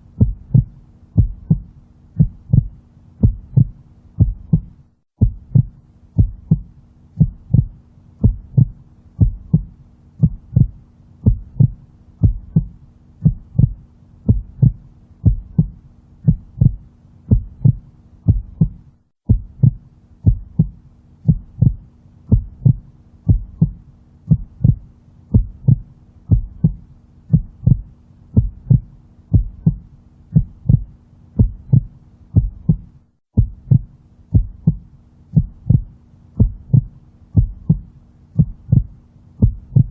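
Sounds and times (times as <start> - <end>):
faint low hum: 0.0 - 39.9
heartbeat thumps: 0.1 - 39.9.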